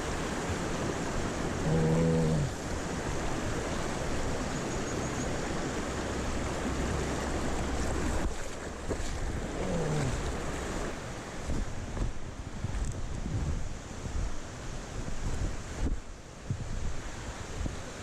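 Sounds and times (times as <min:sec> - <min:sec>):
stream water rushing: 0:00.0 - 0:18.0
wind rumbling on microphone: 0:00.0 - 0:18.0.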